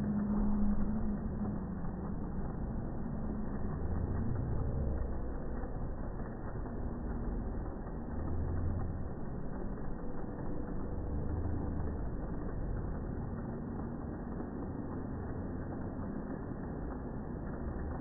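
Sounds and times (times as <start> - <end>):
model trains running: 0.0 - 18.0.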